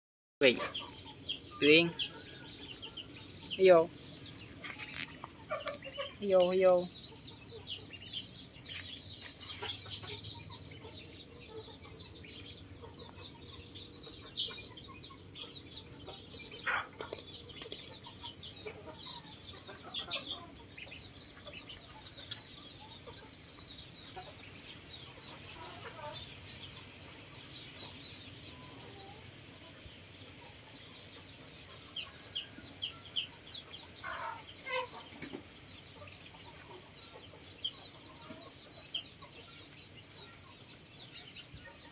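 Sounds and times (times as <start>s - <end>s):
birds chirping and calling: 0.4s - 41.9s.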